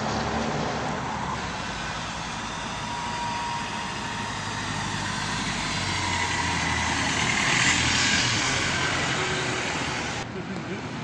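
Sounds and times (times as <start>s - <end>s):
van engine and tyre noise: 0.0s - 11.0s.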